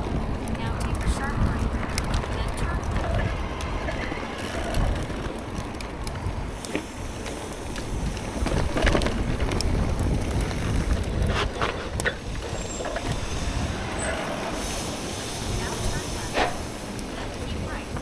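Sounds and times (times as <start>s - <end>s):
bike rattles and clicks: 0.0s - 18.0s
wind rumbling on microphone: 0.0s - 18.0s.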